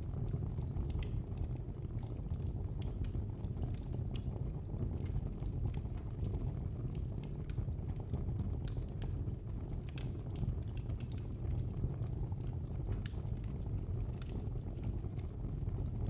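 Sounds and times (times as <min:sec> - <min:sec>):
fire crackling and popping: 0:00.0 - 0:16.0
fire rumbling in fireplace: 0:00.0 - 0:16.0.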